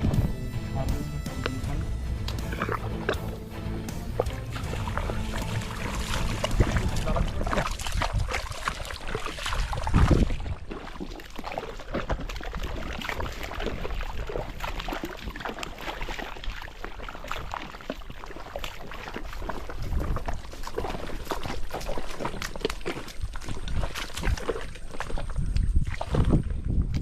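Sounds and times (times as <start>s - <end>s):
splashing in muddy water: 0.0s - 27.0s.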